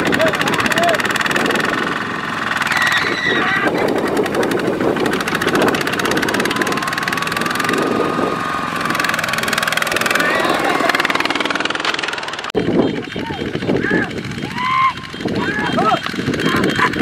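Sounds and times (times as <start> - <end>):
diesel engines chugging: 0.0 - 17.0.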